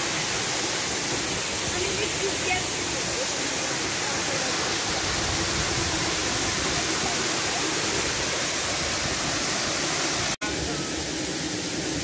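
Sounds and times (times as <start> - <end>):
waterfall splashing over rocks: 0.0 - 12.0.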